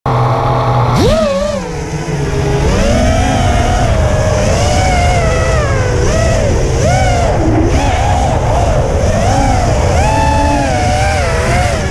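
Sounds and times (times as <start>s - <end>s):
quadcopter motors whining: 0.1s - 11.9s.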